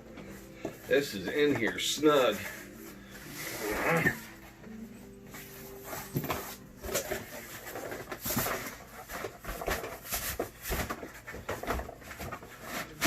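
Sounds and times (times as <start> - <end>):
cardboard box scraping and rustling: 1.0 - 4.4, 5.4 - 13.0.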